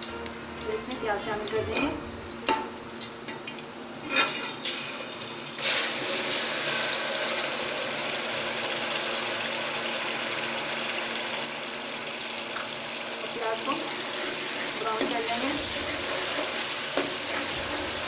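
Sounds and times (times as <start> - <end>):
hot oil sizzling: 0.0 - 18.0.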